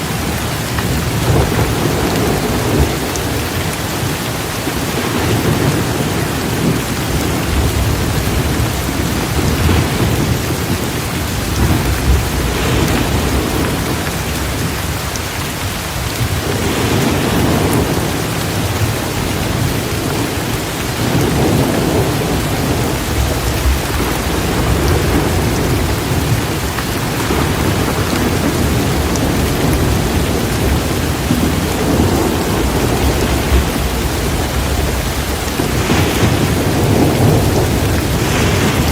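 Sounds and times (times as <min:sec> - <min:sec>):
low thunder rumbling: 0:00.0 - 0:38.9
torrential rain pouring: 0:00.0 - 0:38.9.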